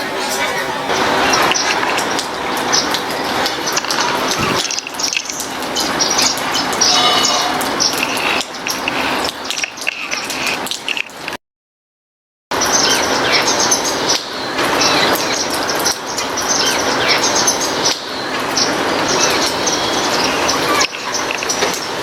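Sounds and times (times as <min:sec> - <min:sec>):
small birds chirping: 0:00.0 - 0:11.3, 0:12.6 - 0:22.0
heavy rain: 0:00.0 - 0:11.4, 0:12.6 - 0:22.0.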